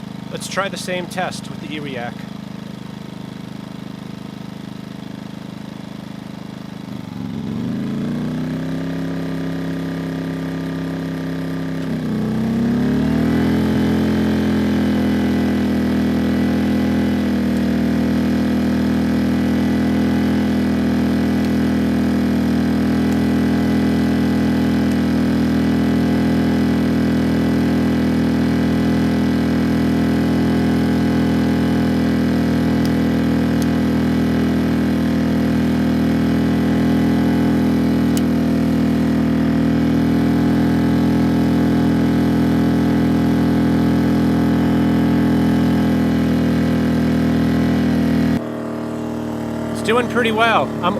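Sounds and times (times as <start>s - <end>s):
generator engine running: 0.0s - 50.9s.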